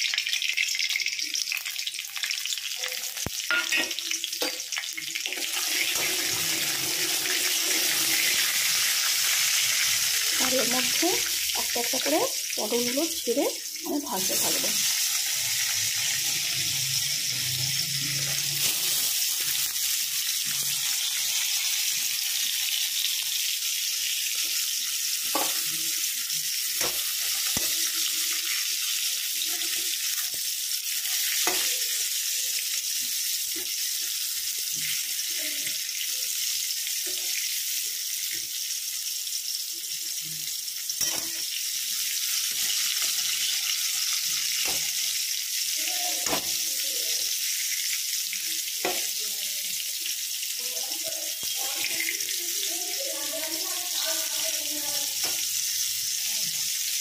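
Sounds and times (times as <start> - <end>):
vegetables sizzling in oil: 0.0 - 57.0.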